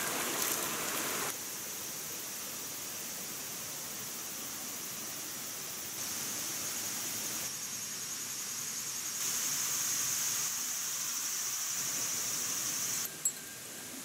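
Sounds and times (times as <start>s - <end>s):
background hiss: 0.0s - 14.0s
insects chirring: 0.0s - 14.0s.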